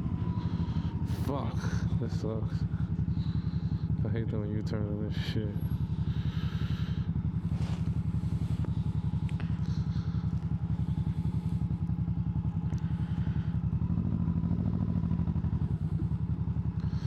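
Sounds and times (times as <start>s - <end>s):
motorcycle engine pulsing exhaust: 0.0s - 17.0s.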